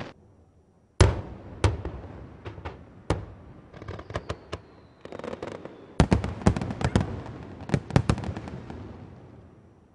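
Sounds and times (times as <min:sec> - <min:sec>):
fireworks crackling: 0:01.0 - 0:09.4
fireworks bursting: 0:01.0 - 0:09.5.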